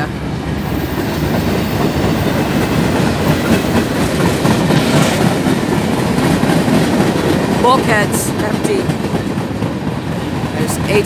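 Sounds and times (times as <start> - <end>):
freight train rumbling on rails: 0.0 - 11.0
train wheel clicks: 0.6 - 11.0.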